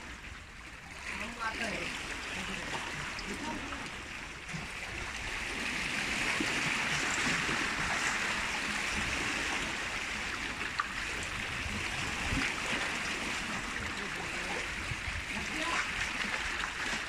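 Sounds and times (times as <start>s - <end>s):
seawater lapping on concrete: 0.0s - 17.0s
small water splashes: 0.0s - 17.0s.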